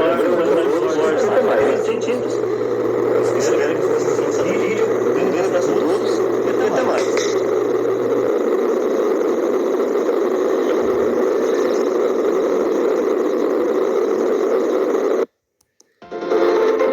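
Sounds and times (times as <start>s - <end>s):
electric fan whirring: 0.0s - 16.9s.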